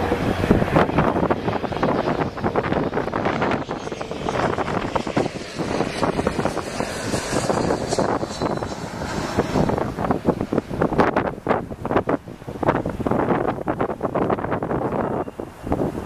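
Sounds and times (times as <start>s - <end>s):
jet passing overhead: 0.0s - 16.0s
wind buffeting microphone: 0.0s - 16.0s.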